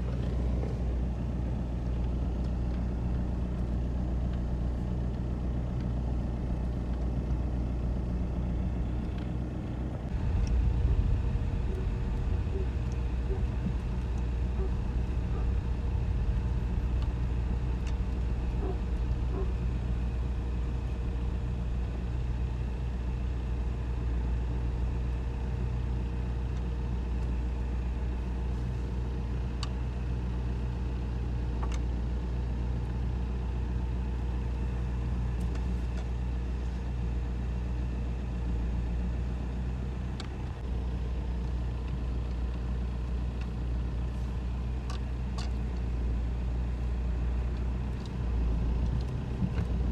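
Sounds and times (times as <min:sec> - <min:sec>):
road noise: 0:00.0 - 0:29.7, 0:38.4 - 0:49.9
car engine droning: 0:00.0 - 0:49.9.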